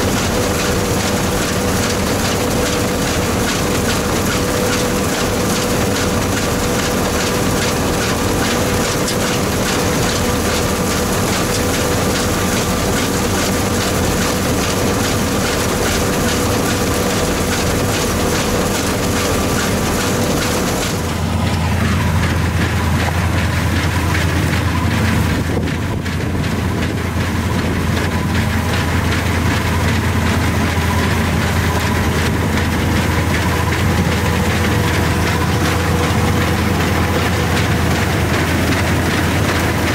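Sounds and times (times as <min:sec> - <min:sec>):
combine harvester drone in cab: 0:00.0 - 0:39.9
heavy diesel engine outside: 0:00.0 - 0:39.9.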